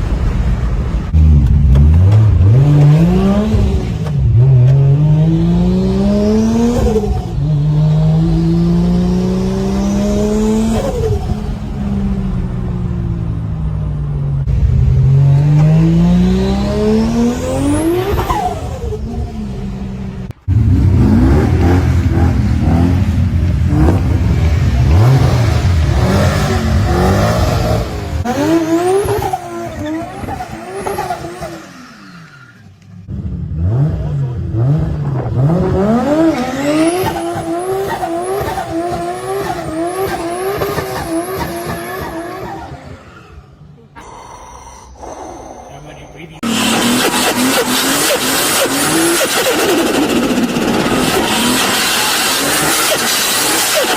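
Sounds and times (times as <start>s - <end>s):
car engines revving hard: 0.0s - 53.9s.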